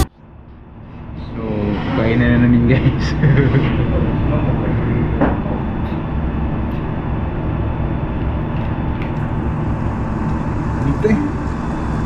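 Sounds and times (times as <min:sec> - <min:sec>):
low rumble and mechanical hum: 0:00.0 - 0:12.0.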